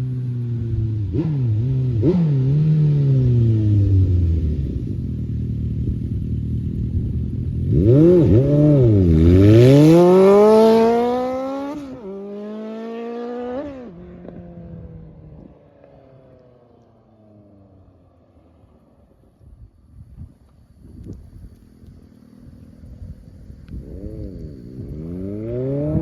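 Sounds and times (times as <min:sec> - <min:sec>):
motorcycle engine revving: 0:00.0 - 0:16.4, 0:21.4 - 0:26.0
motorcycle accelerating and shifting: 0:00.0 - 0:26.0.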